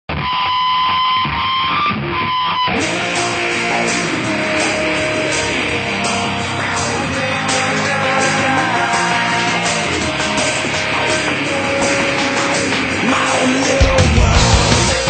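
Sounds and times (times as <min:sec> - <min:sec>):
rock music with guitar: 0:00.1 - 0:15.0.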